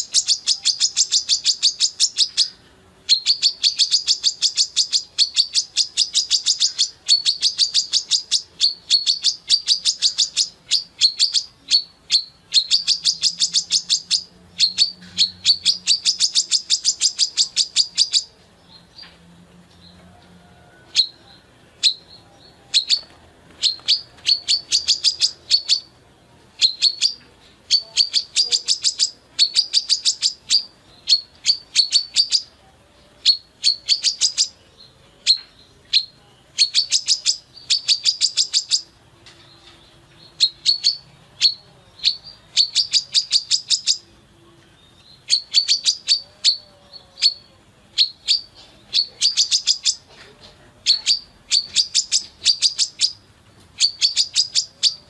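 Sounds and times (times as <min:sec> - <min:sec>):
sunbird chipping calls: 0:00.0 - 0:19.1, 0:20.9 - 0:26.0, 0:26.6 - 0:39.0, 0:40.2 - 0:44.2, 0:44.8 - 0:55.0.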